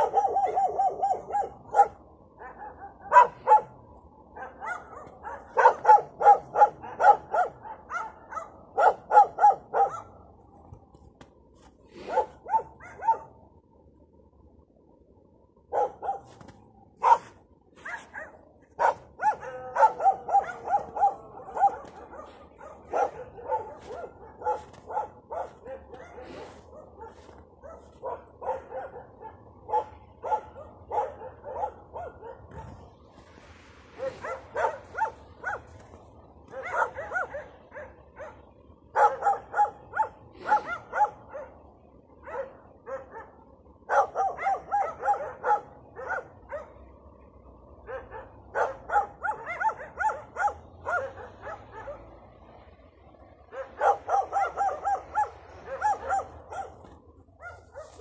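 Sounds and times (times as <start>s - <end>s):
dogs barking: 0.0s - 10.2s, 12.0s - 13.4s, 15.7s - 32.9s, 33.9s - 47.1s, 47.7s - 52.5s, 53.4s - 58.0s.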